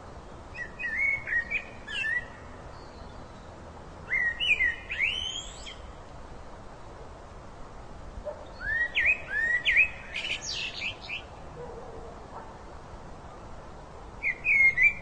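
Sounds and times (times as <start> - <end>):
songbird singing: 0.0 - 7.2, 8.2 - 12.4, 13.2 - 15.0
steady background hiss: 0.0 - 15.0.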